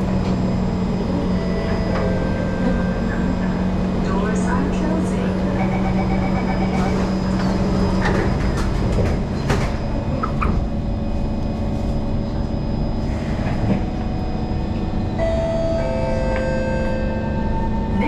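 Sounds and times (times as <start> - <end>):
train doors shutting: 0.0 - 11.0, 13.0 - 18.0
train carriage low rumble: 0.0 - 18.0.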